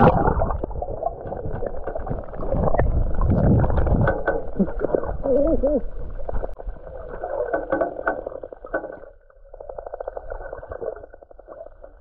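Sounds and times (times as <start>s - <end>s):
muffled underwater sloshing: 0.0s - 12.0s.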